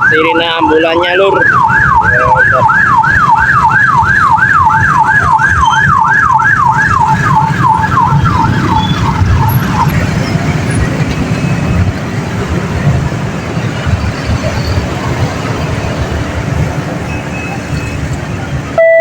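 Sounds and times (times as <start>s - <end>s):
level crossing warning siren: 0.0s - 19.0s.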